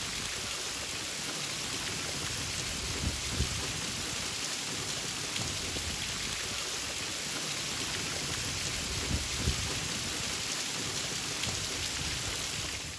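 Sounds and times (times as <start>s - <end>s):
heavy rain on floodwater: 0.0s - 12.9s.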